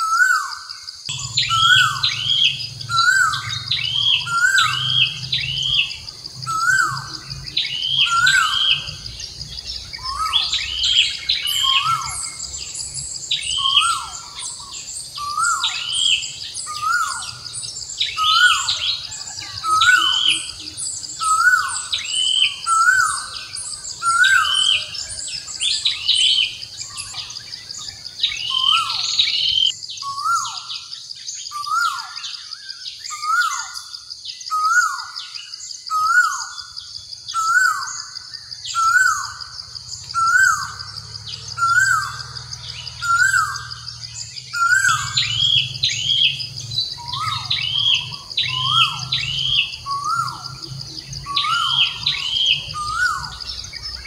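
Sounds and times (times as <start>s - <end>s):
birds calling: 0.0s - 54.0s
high-pitched insect drone: 0.0s - 54.0s.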